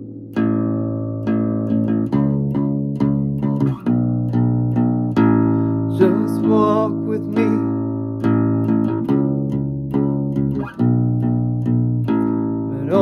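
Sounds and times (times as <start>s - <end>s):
plucked acoustic bass guitar: 0.0s - 13.0s.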